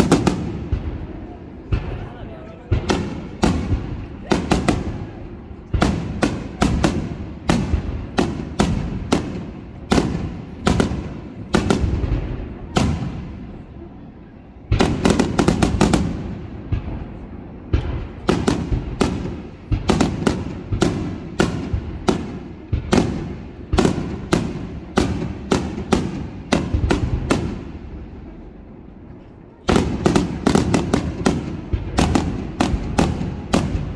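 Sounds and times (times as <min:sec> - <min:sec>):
fireworks bursting in echoing bangs: 0:00.0 - 0:13.8, 0:14.6 - 0:28.8, 0:29.6 - 0:33.9.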